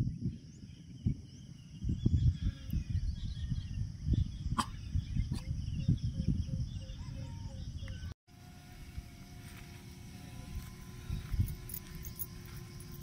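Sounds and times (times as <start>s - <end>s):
wind buffeting microphone: 0.0s - 8.1s, 10.3s - 13.0s
birds chirping: 0.0s - 13.0s.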